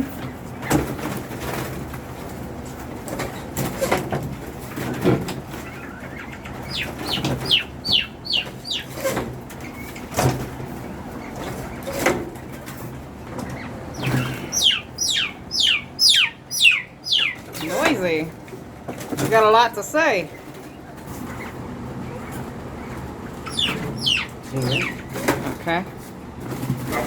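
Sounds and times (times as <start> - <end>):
quail chirping: 3.0 - 18.4, 19.3 - 25.6.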